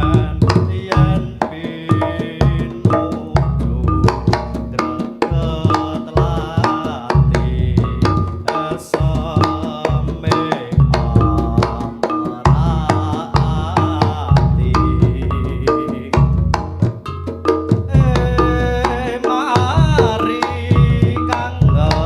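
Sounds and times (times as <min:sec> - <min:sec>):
hand drum strokes: 0:00.0 - 0:22.0
heavy low drum beats: 0:00.0 - 0:22.0
wavering melody line: 0:00.0 - 0:22.0.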